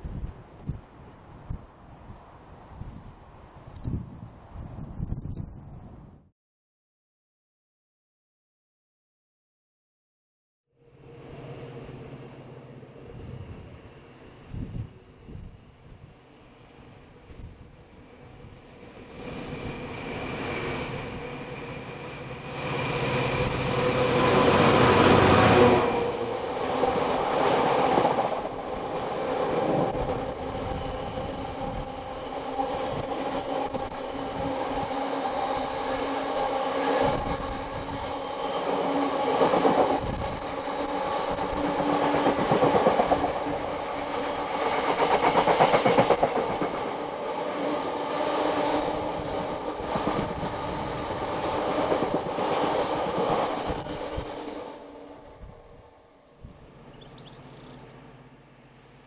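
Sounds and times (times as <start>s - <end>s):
diesel locomotive engine passing: 10.8s - 59.0s.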